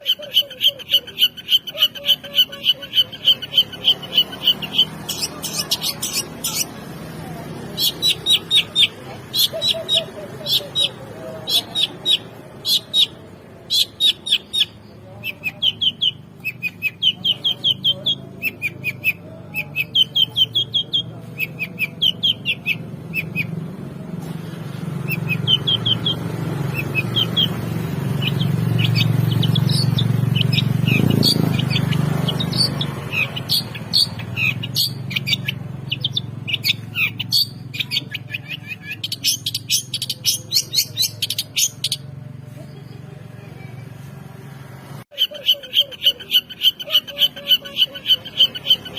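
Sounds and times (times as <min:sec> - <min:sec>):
bird chirping: 0:00.0 - 0:44.1, 0:45.1 - 0:48.9.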